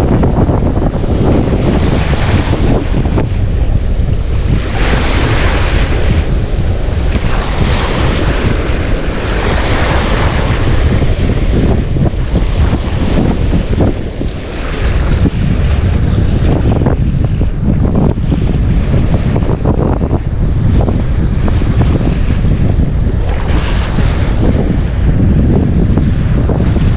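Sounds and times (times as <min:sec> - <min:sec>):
sea waves: 0:00.0 - 0:26.9
wind buffeting microphone: 0:00.0 - 0:26.9.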